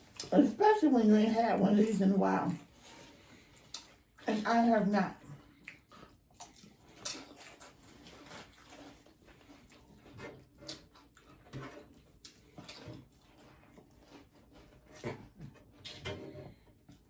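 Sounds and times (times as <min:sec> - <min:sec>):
chewing and mouth sounds: 0:00.0 - 0:00.3, 0:01.8 - 0:15.4.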